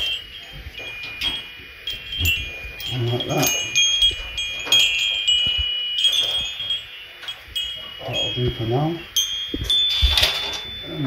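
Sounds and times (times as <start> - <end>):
metal wind chimes jangling: 0.0 - 11.0.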